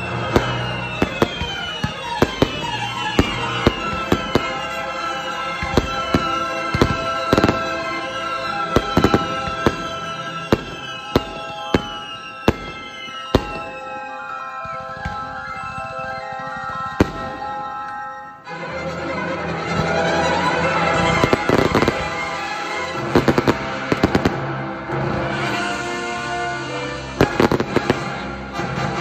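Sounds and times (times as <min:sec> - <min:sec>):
fireworks bursting: 0:00.0 - 0:18.2, 0:19.7 - 0:29.0
music with long held notes: 0:00.0 - 0:29.0.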